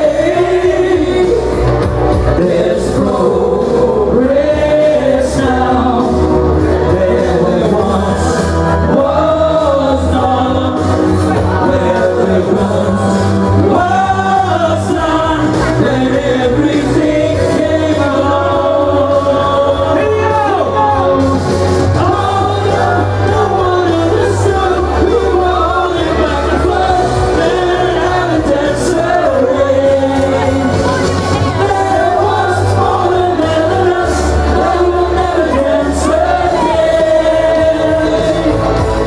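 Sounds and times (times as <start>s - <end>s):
men singing pop song: 0.0s - 39.0s
music with steady bass line: 0.0s - 39.0s.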